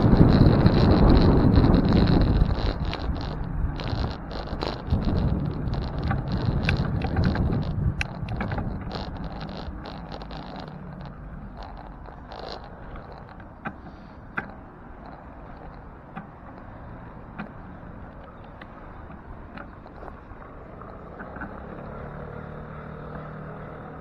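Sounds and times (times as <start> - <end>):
sharp clicks: 0.0 - 20.2
road noise: 0.0 - 24.0
wind buffeting microphone: 0.0 - 24.0.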